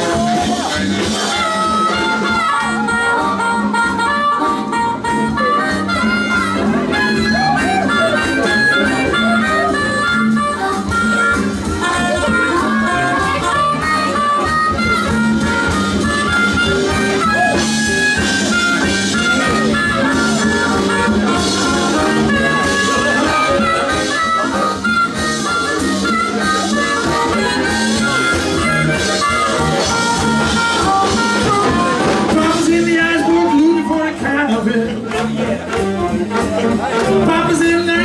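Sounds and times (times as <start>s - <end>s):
walking bass: 0.0s - 38.0s.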